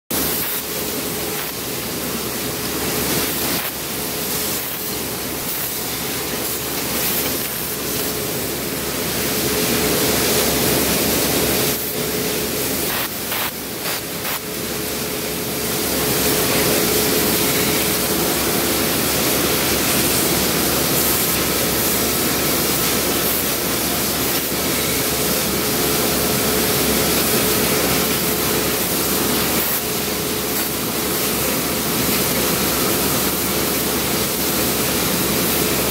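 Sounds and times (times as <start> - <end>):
steady machine hum: 0.1 - 35.9.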